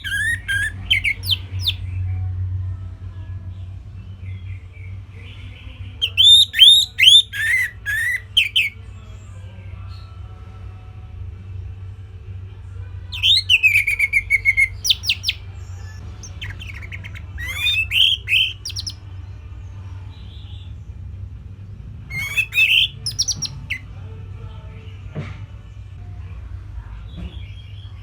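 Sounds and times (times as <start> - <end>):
thrush singing: 0.0 - 11.7, 12.6 - 20.8, 22.0 - 25.3.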